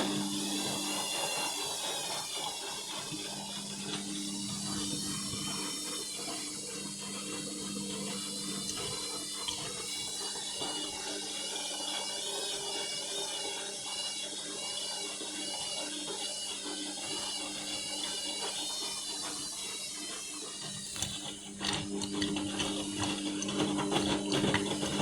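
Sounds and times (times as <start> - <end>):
washing machine motor whining: 0.0 - 25.0
water in washing machine: 0.0 - 25.0.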